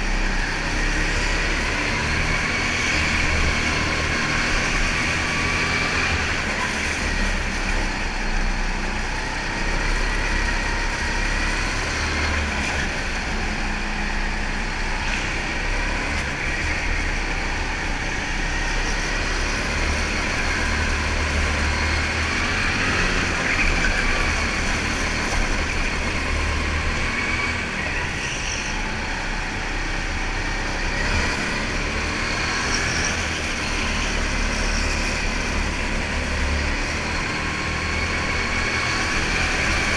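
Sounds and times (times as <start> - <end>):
go-kart motor running: 0.0 - 39.9.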